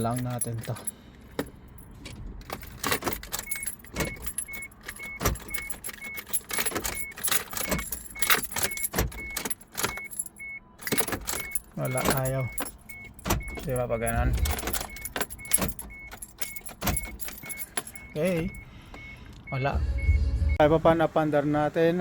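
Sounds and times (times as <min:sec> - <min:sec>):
clicking and rattling: 0:00.0 - 0:19.1
car warning chime beeping: 0:02.9 - 0:21.4.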